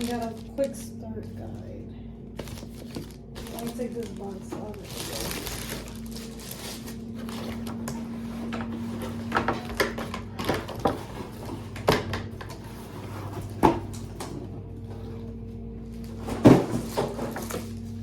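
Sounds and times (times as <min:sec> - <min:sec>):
steady low hum: 0:00.0 - 0:18.0
cardboard scraping and rustling: 0:02.4 - 0:15.4, 0:16.0 - 0:18.0.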